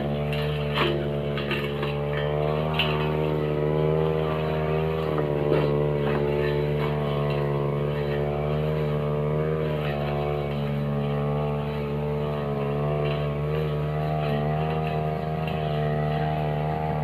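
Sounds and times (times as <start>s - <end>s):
blade cutting grass: 0.0s - 17.0s
brush cutter engine running: 0.0s - 17.0s.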